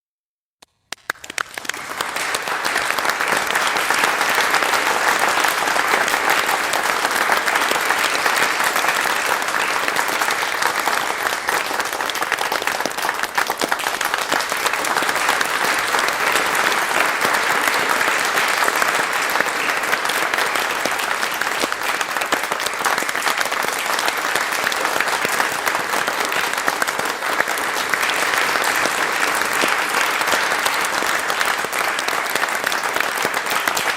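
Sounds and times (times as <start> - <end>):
crowd applauding: 0.7 - 33.9.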